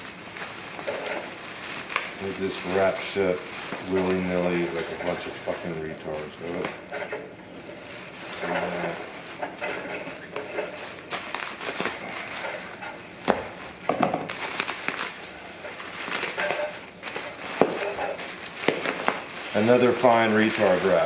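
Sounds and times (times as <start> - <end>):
packing material crinkling: 0.0 - 21.0.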